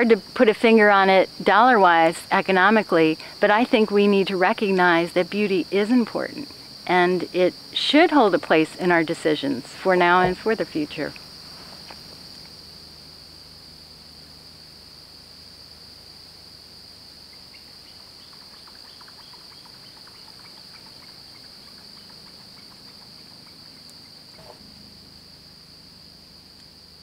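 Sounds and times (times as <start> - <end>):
insect chorus droning: 0.0 - 27.0.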